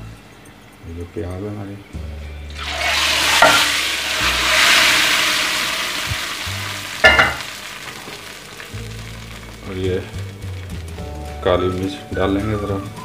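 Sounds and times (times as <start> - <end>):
hot oil sizzling: 2.5 - 13.0.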